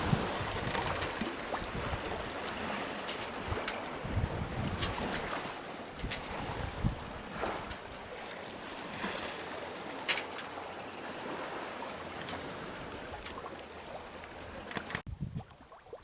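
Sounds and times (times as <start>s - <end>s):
water rushing along boat hull: 0.0s - 16.0s.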